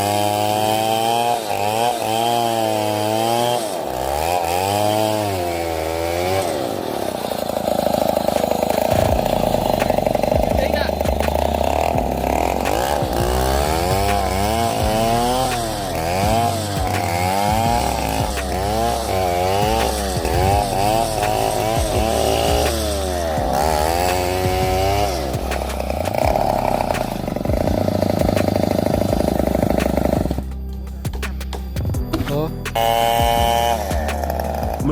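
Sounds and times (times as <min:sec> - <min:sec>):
chainsaw engine revving: 0:00.0 - 0:30.5, 0:32.1 - 0:34.9.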